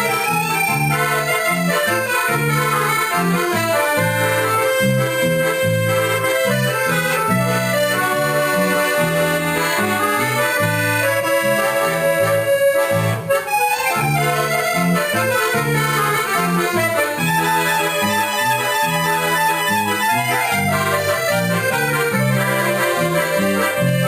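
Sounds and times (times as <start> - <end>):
accordions playing: 0.0 - 24.0
bass guitar notes: 0.0 - 24.0.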